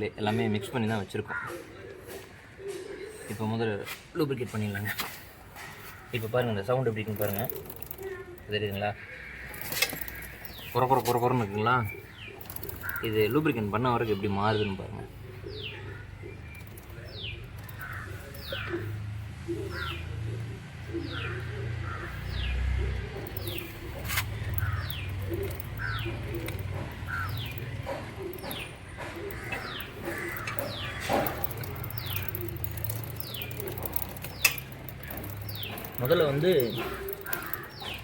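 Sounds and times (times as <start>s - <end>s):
motorcycle chain squeaking and humming: 4.6s - 38.0s.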